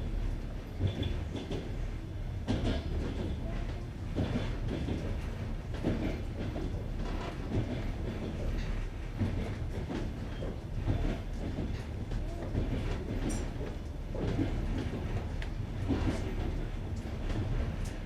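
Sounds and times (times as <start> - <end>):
train wheels clattering over rail joints: 0.7 - 18.0.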